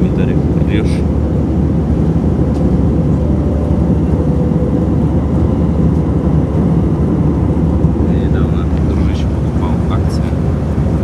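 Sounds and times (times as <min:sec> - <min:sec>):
faint steady hum: 0:00.0 - 0:11.0
jet engine cabin rumble: 0:00.0 - 0:11.0.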